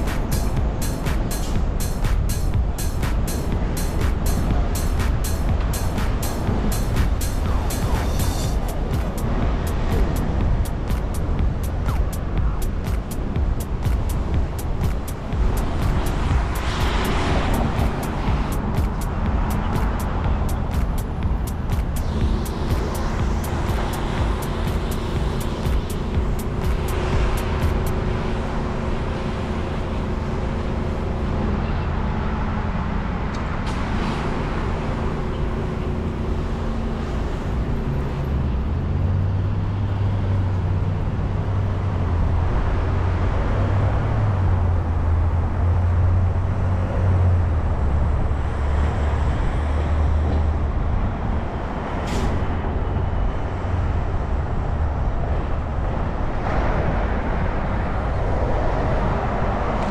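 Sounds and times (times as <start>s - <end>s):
city street traffic: 0.0s - 59.9s
large vehicle engine humming: 0.0s - 59.9s.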